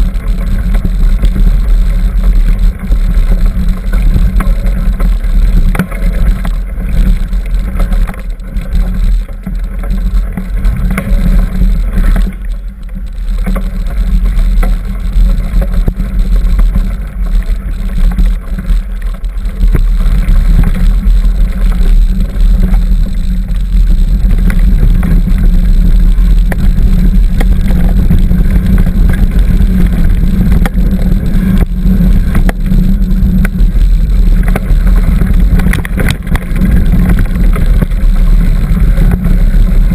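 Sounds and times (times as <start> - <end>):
trail vibration: 0.0 - 39.9
wind rumble: 0.0 - 39.9.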